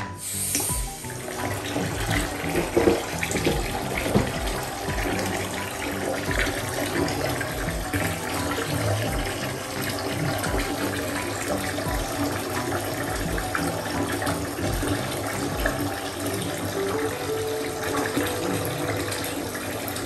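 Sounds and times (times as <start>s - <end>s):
bath water running and splashing: 0.0s - 20.0s.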